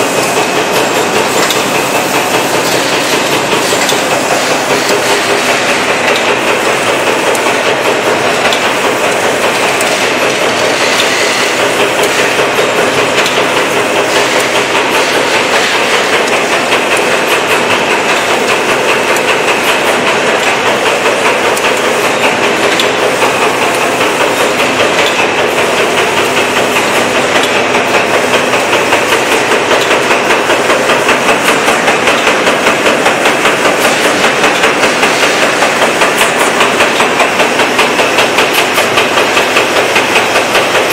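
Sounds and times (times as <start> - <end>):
rhythmic machine clatter: 0.0 - 40.9.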